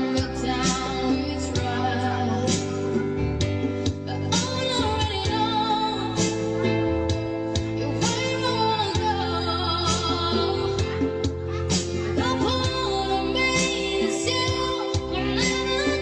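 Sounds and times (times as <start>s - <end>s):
woman singing over backing track: 0.0s - 16.0s.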